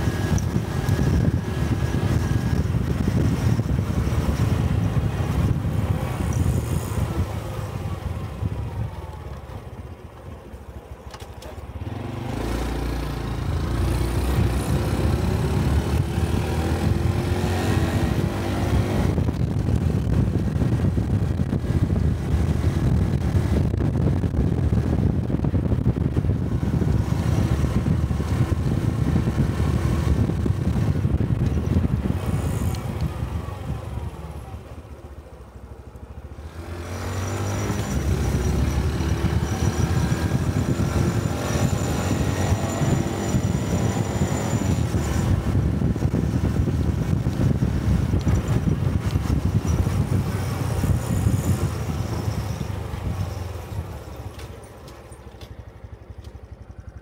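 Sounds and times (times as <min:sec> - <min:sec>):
motorcycle engine while riding: 0:00.0 - 0:57.0.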